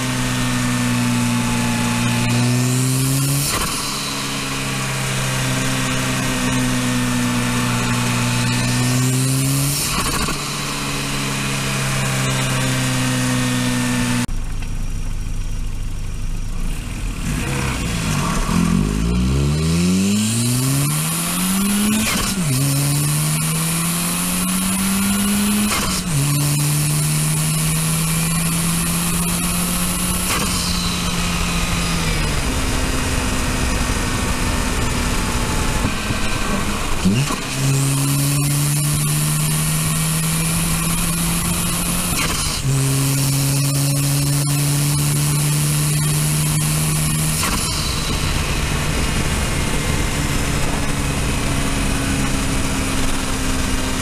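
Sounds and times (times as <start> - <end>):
car engine through intake: 0.0 - 54.0.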